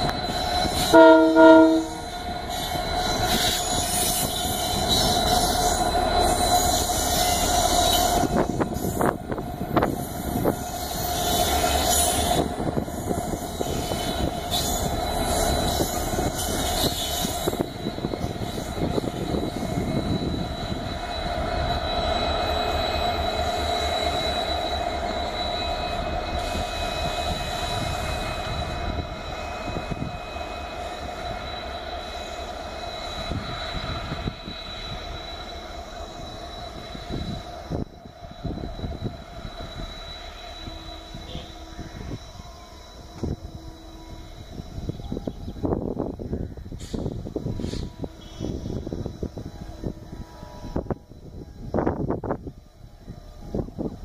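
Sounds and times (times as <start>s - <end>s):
diesel locomotive engines droning: 0.0s - 54.0s.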